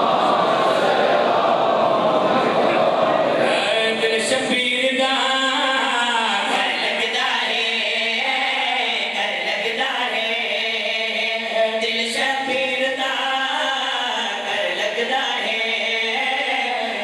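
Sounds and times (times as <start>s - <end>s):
men chanting over loudspeakers: 0.0s - 17.0s.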